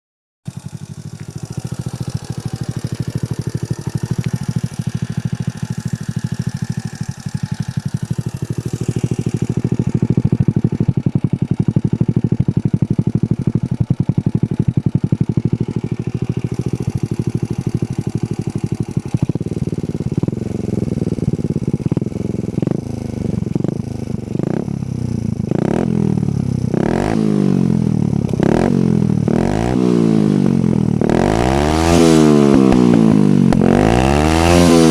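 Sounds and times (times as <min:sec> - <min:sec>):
motorcycle engine idling and revving: 0:00.4 - 0:34.9.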